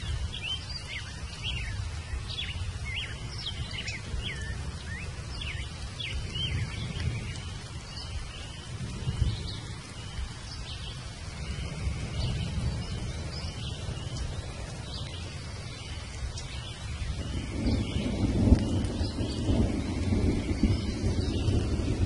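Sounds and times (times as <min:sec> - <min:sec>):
birds chirping: 0:00.0 - 0:22.0
rain hissing: 0:00.0 - 0:22.0
thunder rumbling: 0:02.2 - 0:22.0.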